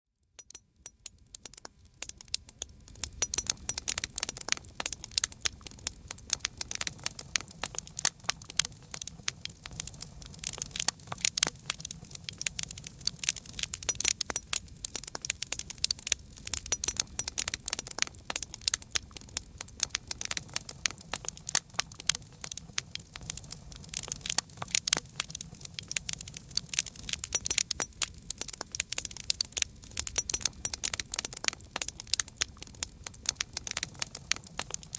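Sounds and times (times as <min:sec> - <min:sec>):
campfire pops and snaps: 0:00.4 - 0:34.9.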